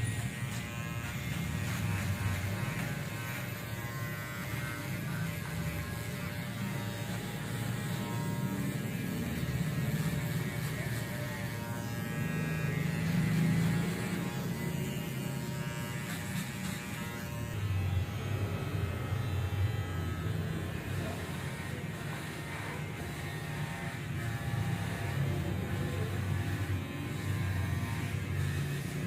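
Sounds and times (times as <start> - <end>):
electric shaver buzzing: 0.0 - 29.0.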